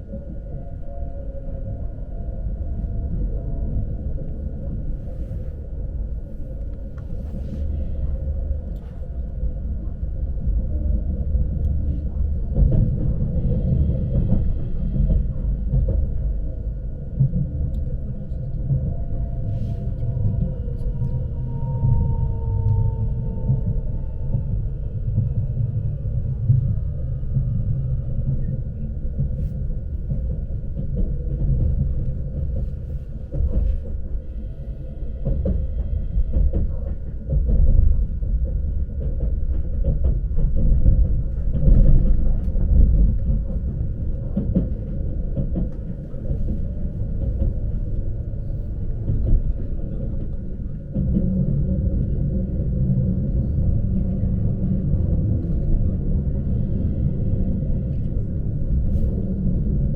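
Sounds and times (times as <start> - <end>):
train rumbling inside carriage: 0.0 - 59.9.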